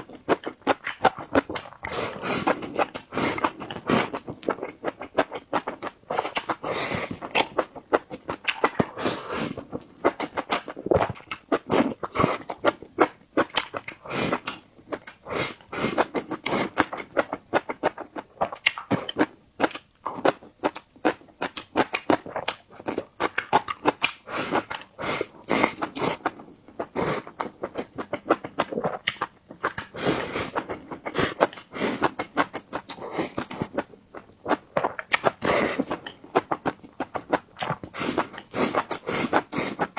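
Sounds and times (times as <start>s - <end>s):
chewing with mouth clicks: 0.0s - 39.9s.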